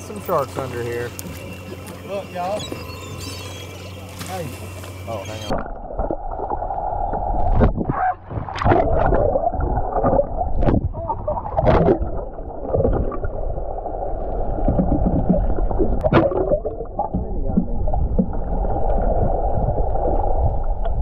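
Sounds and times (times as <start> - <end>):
low rumble: 0.0 - 21.0
muffled water sloshing and gurgling: 0.0 - 21.0.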